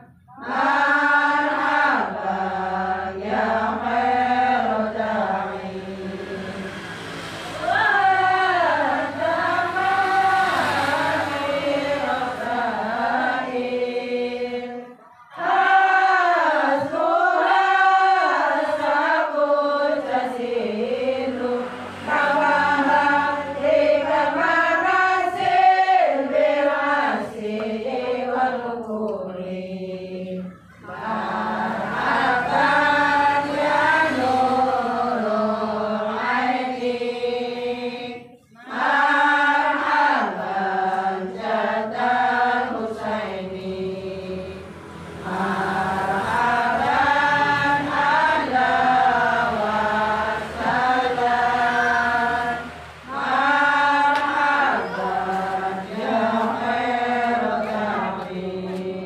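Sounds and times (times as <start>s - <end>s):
voices chanting devotional verses: 0.0s - 59.0s.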